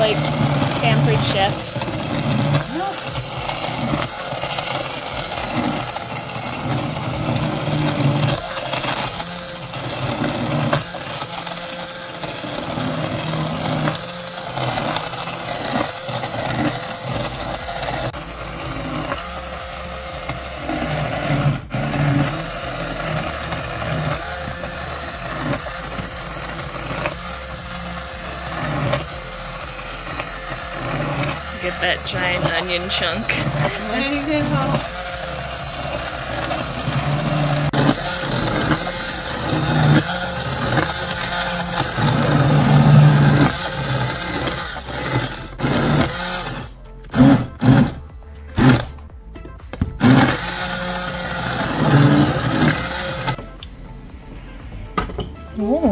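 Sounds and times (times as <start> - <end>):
immersion blender running in soup: 0.0 - 55.9.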